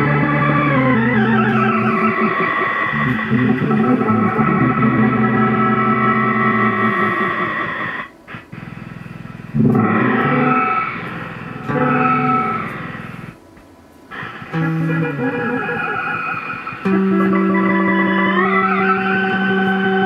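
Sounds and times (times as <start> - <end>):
electric bass through effects pedal: 0.0 - 13.4, 14.1 - 20.0.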